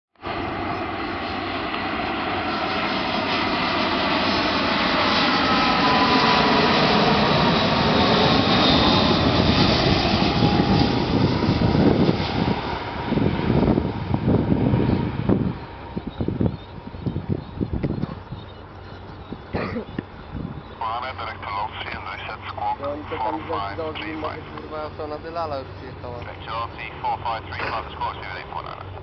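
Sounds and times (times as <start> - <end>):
jet airliner roar passing: 0.2 - 29.0
jet engine whine falling in pitch: 0.2 - 29.0.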